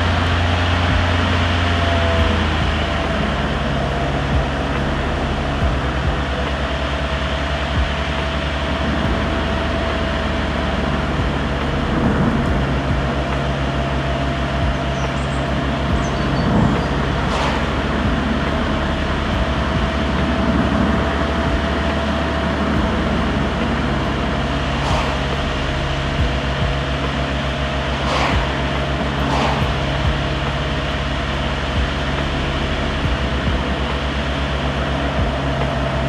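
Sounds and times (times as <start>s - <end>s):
car engine and tyre noise: 0.0s - 36.0s.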